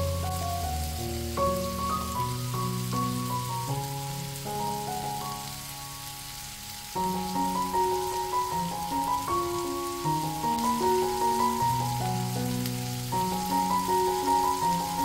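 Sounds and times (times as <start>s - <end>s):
background music of held notes: 0.0s - 15.0s
meat sizzling in a pan: 0.0s - 15.0s.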